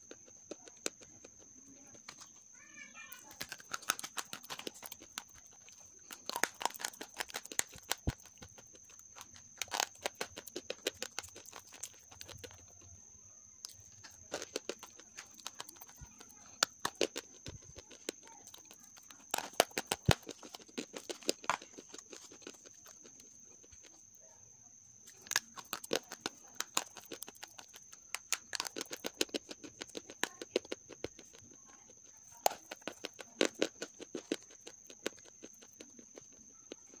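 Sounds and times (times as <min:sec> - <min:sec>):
clay crunching between fingers: 0:00.0 - 0:02.4, 0:03.1 - 0:13.0, 0:13.6 - 0:24.3, 0:25.0 - 0:37.0.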